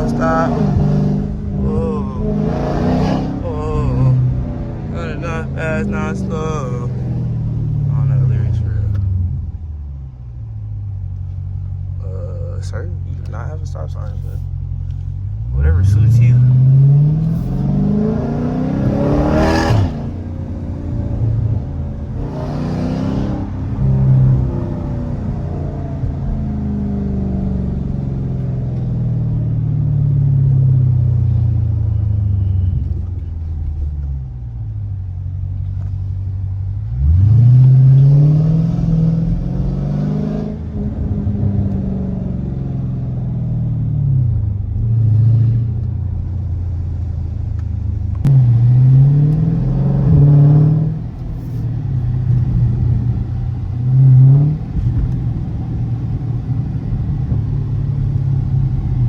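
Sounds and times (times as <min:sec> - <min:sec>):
car engine revving and accelerating: 0:00.0 - 0:10.3, 0:11.2 - 0:34.6, 0:35.6 - 0:59.0.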